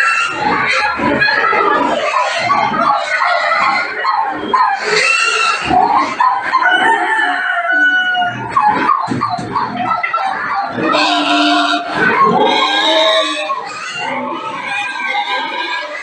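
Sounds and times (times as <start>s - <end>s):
pigs squealing and grunting: 0.0s - 16.0s.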